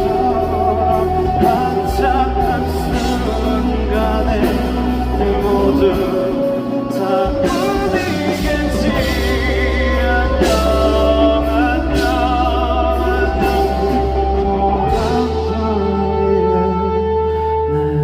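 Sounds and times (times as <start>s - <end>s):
live band playing: 0.0s - 18.0s
man singing with vibrato: 0.0s - 18.0s.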